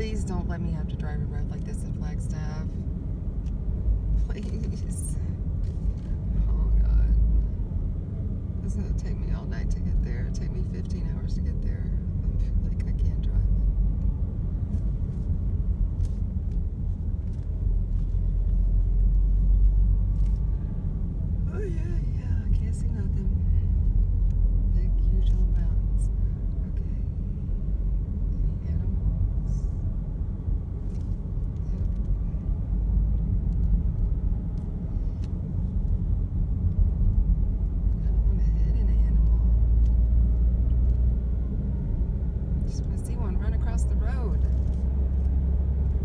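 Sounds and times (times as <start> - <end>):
vehicle cabin road rumble: 0.0 - 46.0.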